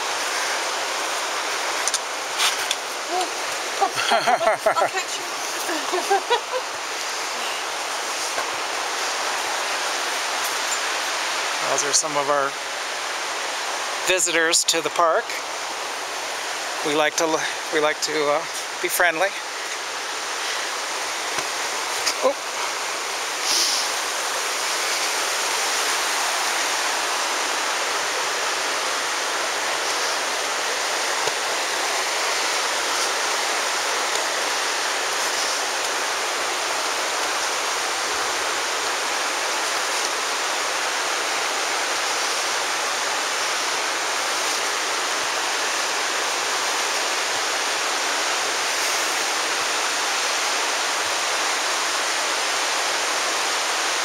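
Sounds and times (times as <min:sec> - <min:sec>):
rushing river water: 0:00.0 - 0:54.0.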